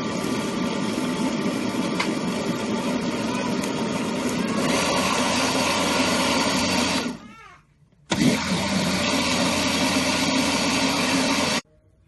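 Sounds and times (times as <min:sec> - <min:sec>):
blender whirring: 0:00.0 - 0:07.2, 0:08.1 - 0:11.6.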